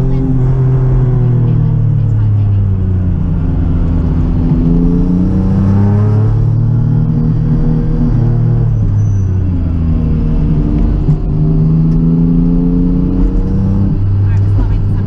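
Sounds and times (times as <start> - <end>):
car engine revving in cabin: 0.0 - 15.0.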